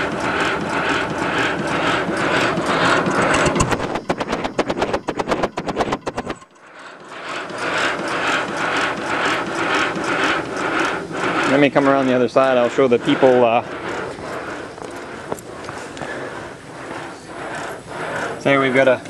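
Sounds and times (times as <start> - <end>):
model locomotive exhaust beating: 0.0 - 19.0
rapid sharp clicks: 0.0 - 19.0.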